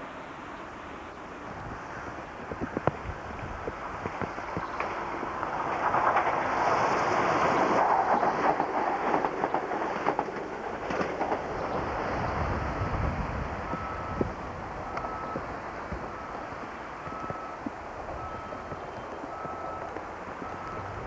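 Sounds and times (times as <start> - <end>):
low engine rumble: 0.0 - 21.0
train rushing past: 0.0 - 21.0
wheels clicking over rail joints: 2.1 - 21.0.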